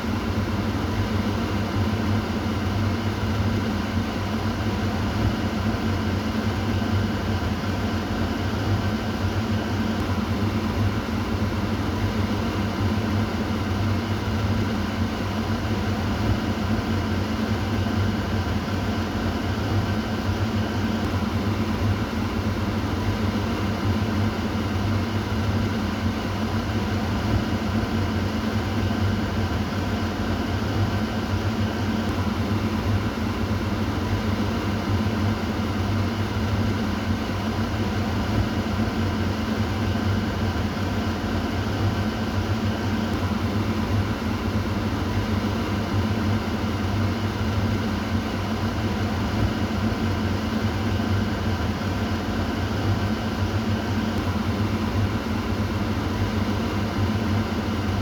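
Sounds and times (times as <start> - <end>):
kitchen exhaust fan running: 0.0 - 58.0.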